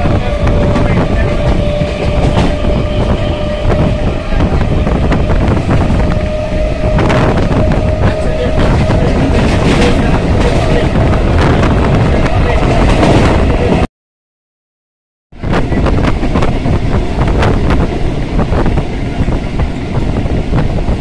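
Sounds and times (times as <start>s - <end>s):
train rumbling: 0.0s - 13.9s, 15.4s - 21.0s.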